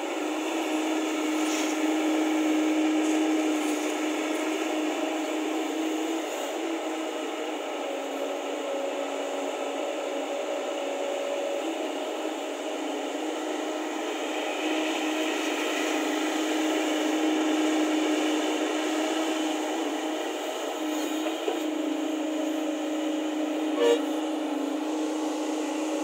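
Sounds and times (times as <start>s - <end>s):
excavator engine and hydraulics: 0.0s - 26.0s.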